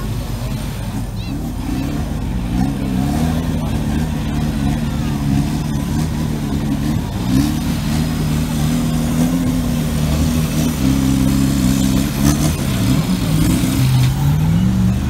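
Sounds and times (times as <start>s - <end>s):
buggy engine revving: 0.0s - 15.0s.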